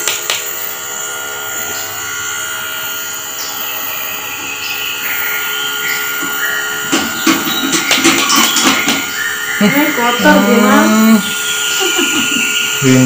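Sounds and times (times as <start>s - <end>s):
compressor motor hum with whine: 0.0s - 13.0s.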